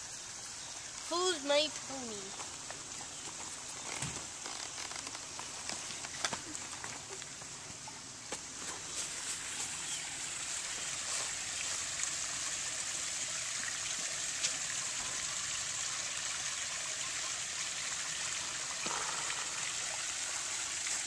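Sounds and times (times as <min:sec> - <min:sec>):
water running and trickling: 0:00.0 - 0:21.0.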